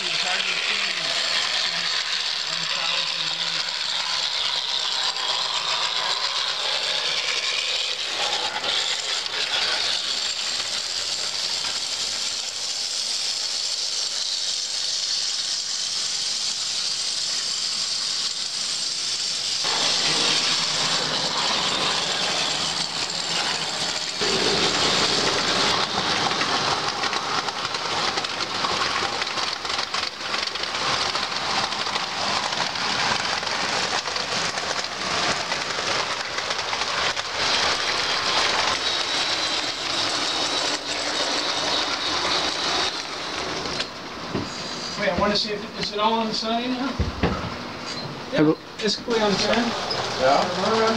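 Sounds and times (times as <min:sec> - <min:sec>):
model train wheels rattling on rail: 0:00.0 - 0:47.0, 0:48.8 - 0:50.9.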